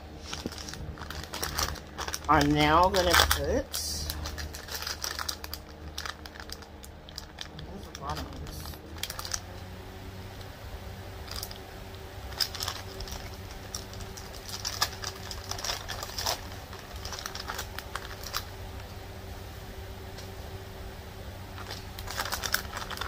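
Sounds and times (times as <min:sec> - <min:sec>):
plastic bag crinkling: 0:00.0 - 0:09.7, 0:11.2 - 0:18.9, 0:21.5 - 0:23.0
steady low hum: 0:00.0 - 0:23.0.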